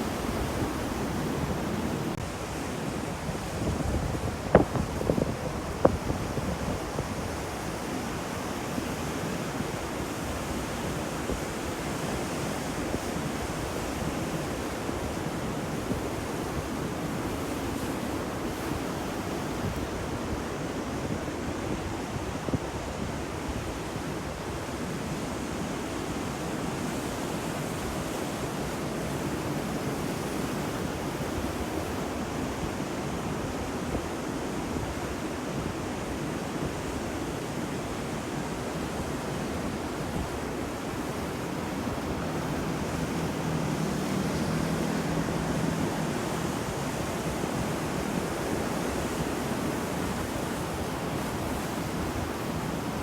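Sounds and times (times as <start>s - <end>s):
ocean waves washing onto shore: 0.0s - 53.0s.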